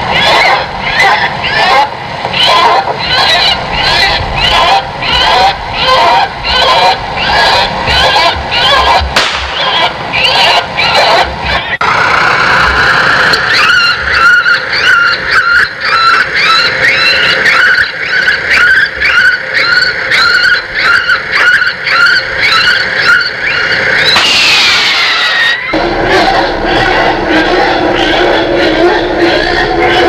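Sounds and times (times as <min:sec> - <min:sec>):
squealing bird-scaring call: 0:00.0 - 0:30.0.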